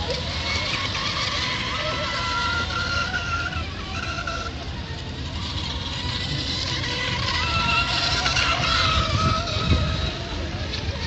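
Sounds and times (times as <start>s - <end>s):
high-pitched motor whine: 0.0s - 11.0s.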